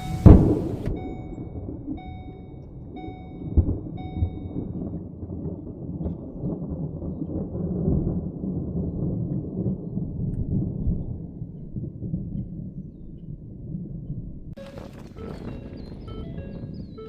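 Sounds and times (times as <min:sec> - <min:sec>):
rolling rumble of thunder: 0:00.0 - 0:14.5.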